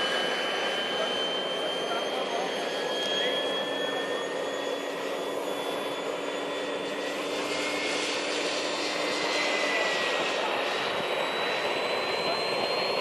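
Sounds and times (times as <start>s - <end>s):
jet aircraft flying overhead: 0.0s - 13.0s.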